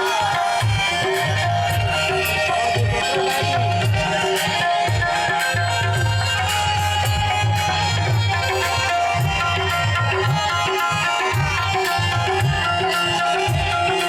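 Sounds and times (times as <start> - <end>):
hand drum rhythm: 0.0 - 14.0
sustained melody notes: 0.0 - 14.0.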